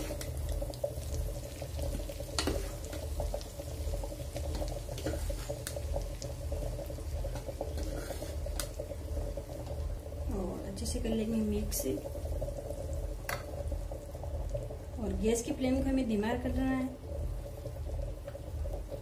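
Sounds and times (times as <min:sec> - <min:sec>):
ghee sizzling in pan: 0:00.0 - 0:19.0.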